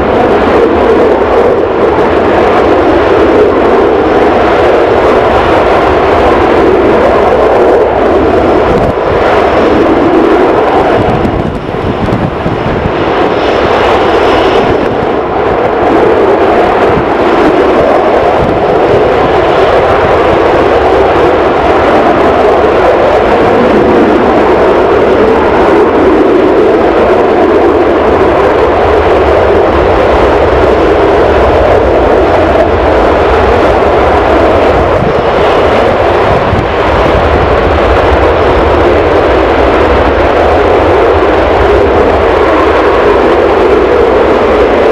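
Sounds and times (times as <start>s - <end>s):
jet engines running: 0.0s - 44.9s.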